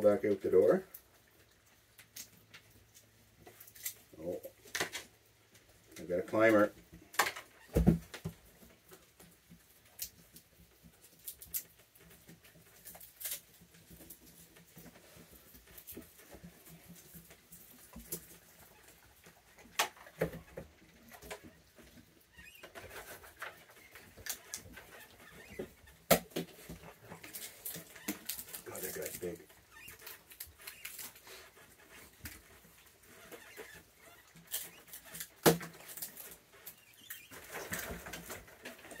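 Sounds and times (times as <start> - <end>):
raccoons tapping and scratching: 0.0 - 39.0.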